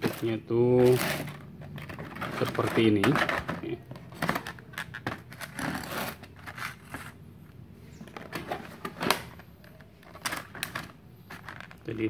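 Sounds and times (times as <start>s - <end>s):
plastic blister packs crinkling: 0.0s - 7.2s, 8.1s - 12.0s.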